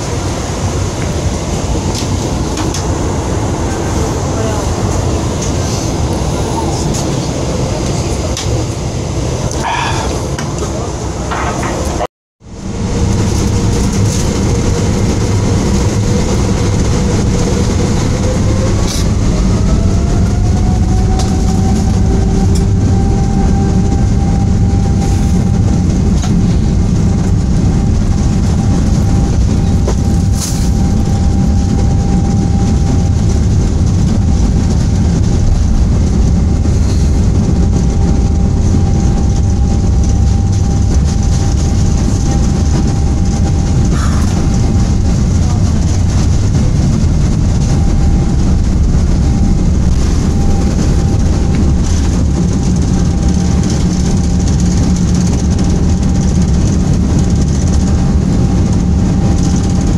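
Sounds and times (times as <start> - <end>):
jet engines roaring from cabin: 0.0 - 59.9.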